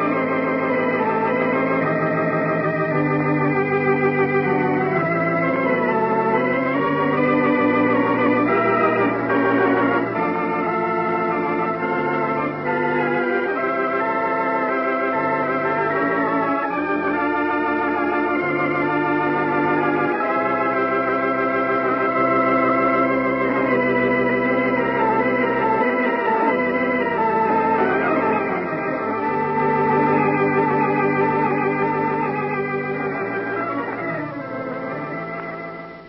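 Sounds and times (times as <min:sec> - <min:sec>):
organ chords with vibrato: 0:00.0 - 0:36.0.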